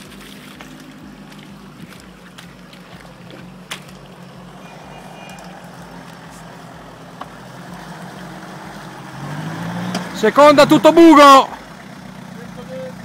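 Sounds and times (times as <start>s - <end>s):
vehicle engine under load: 0.0s - 13.0s.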